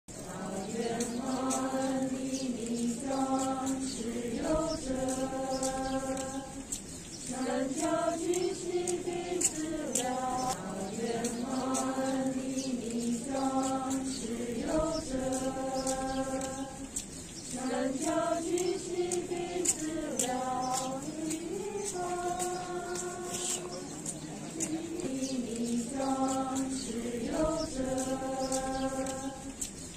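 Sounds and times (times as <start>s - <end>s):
devotional chant: 0.1s - 29.9s.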